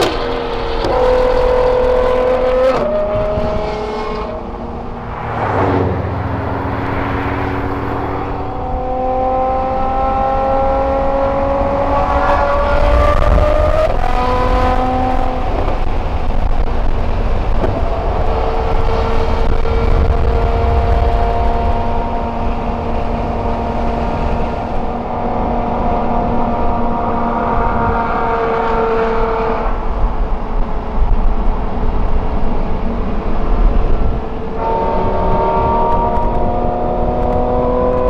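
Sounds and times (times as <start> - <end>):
sports car engine accelerating: 0.0 - 31.0, 31.6 - 38.0.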